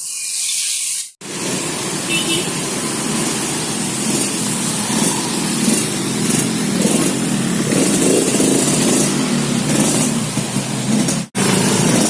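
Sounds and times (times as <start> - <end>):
two-stroke motorcycle engine running: 1.2 - 12.0.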